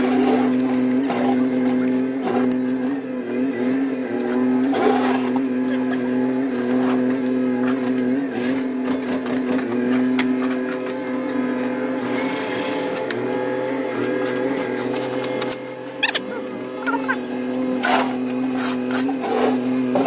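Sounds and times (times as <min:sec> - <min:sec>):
machine drone: 0:00.0 - 0:20.0.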